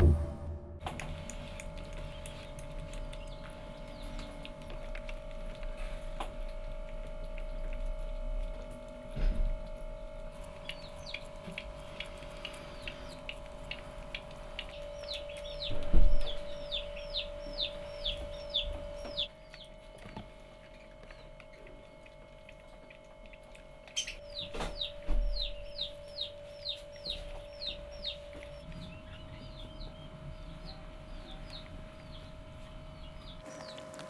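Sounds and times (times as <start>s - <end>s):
baby hedgehogs peeping: 0.0s - 34.0s
steady hum: 0.0s - 34.0s.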